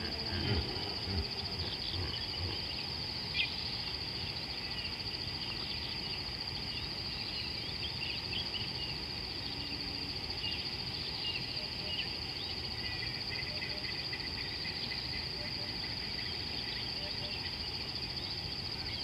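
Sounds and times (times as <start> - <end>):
high-pitched insect trill: 0.0 - 19.0.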